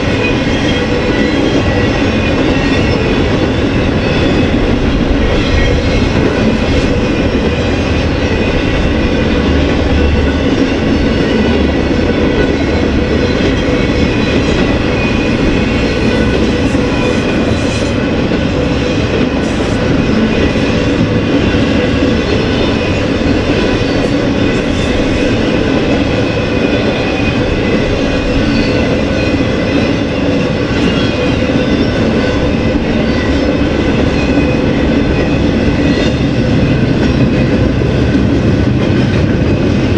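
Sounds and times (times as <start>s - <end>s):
freight train wheels on rail: 0.0s - 39.9s
wheels clickety-clack: 0.0s - 39.9s.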